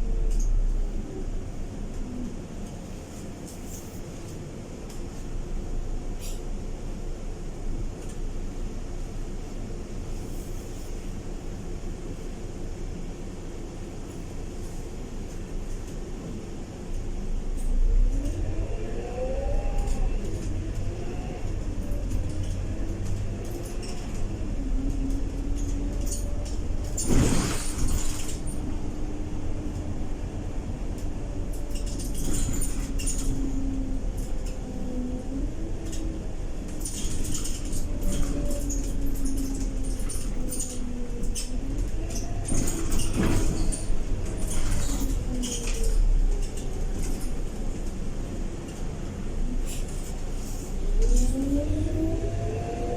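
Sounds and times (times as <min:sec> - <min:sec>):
bus diesel engine and gearbox: 0:00.0 - 0:52.9.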